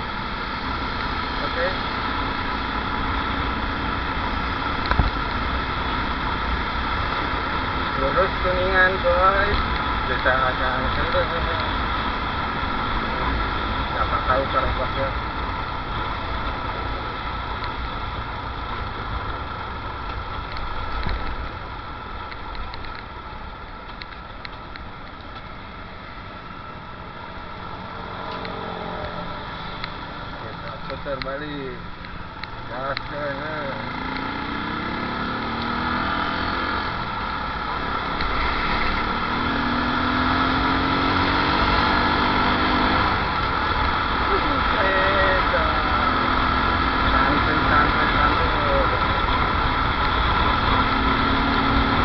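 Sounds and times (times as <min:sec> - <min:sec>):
motorcycle engine running: 0:00.0 - 0:52.0
road and wind noise: 0:00.0 - 0:52.0.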